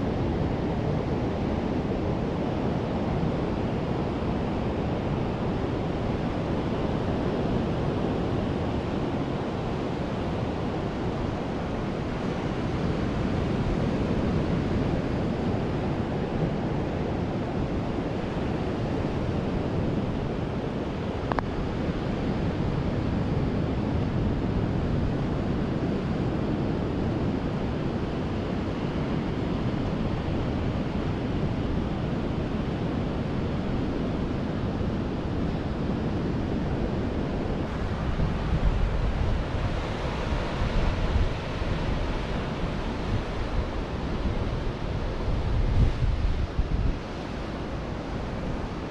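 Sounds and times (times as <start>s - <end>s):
ocean surf washing onto beach: 0.0s - 48.9s
wind rumbling on microphone: 0.0s - 48.9s.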